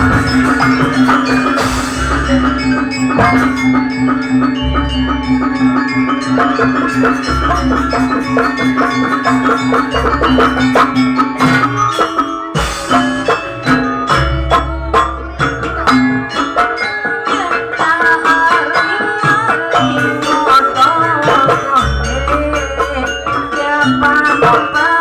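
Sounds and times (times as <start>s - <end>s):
drums: 0.0s - 25.0s
mallet percussion notes: 0.0s - 25.0s.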